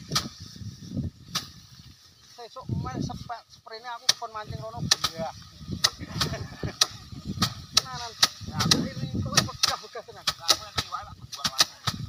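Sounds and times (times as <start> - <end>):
rice stalks whacking wood: 0.0 - 2.6, 3.9 - 12.0.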